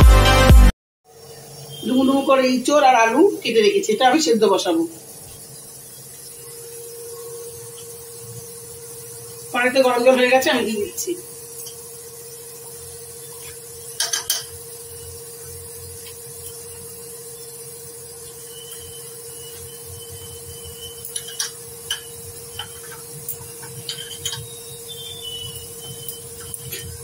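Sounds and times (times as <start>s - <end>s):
steady hum: 1.1s - 27.0s.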